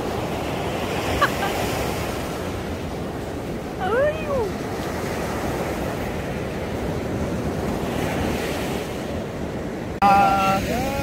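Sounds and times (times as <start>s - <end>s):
surf breaking on sand beach: 0.0s - 11.0s
wind buffeting microphone: 0.0s - 11.0s.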